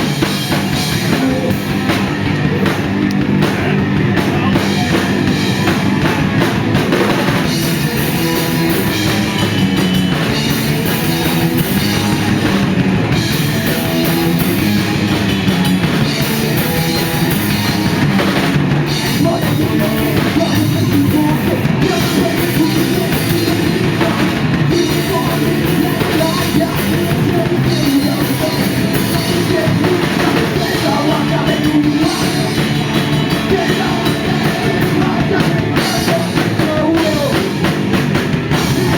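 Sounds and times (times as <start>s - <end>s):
drum kit: 0.0s - 38.9s
punk rock band playing live: 0.0s - 38.9s.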